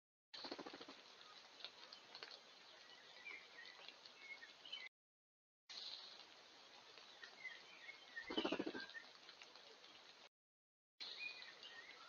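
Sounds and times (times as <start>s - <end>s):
small birds chirping: 0.4s - 4.9s, 5.7s - 10.3s, 11.0s - 12.0s.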